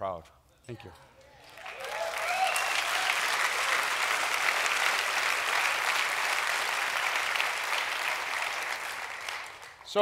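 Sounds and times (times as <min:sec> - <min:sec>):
audience applauding: 0:01.5 - 0:09.8.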